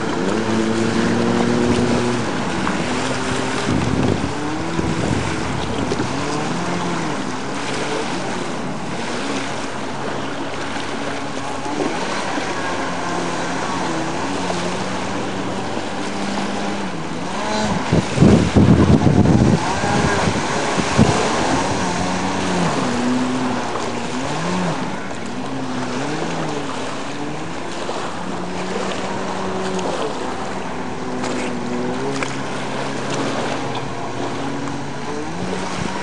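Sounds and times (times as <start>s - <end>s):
jet ski engine revving: 0.0s - 36.0s
water rushing: 0.0s - 36.0s.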